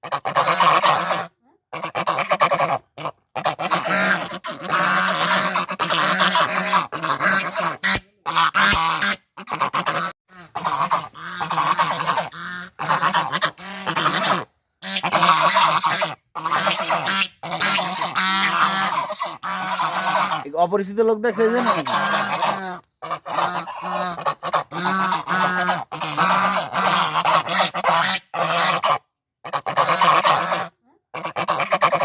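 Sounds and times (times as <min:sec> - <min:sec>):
geese honking: 0:00.0 - 0:32.0.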